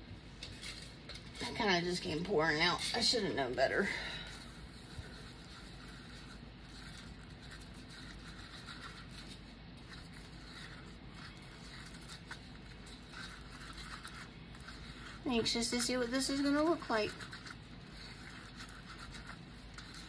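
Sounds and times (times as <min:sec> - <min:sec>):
stir stick scraping paper cup: 0:00.4 - 0:20.0.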